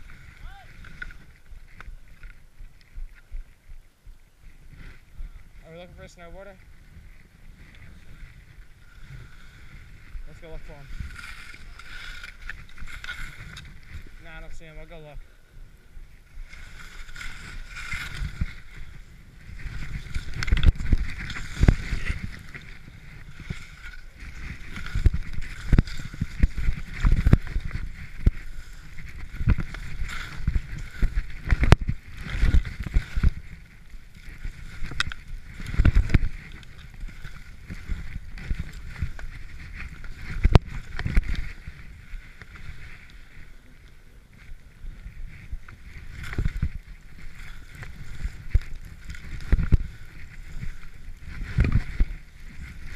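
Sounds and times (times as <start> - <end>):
skis rushing through powder snow: 4.4 - 15.2, 16.0 - 52.9.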